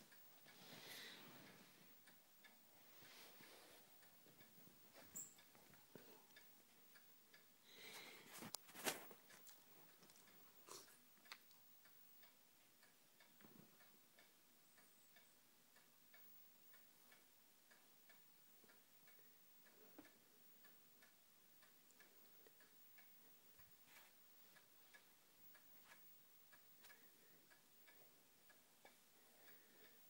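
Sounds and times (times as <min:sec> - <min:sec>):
faint regular ticking: 0:00.0 - 0:30.0.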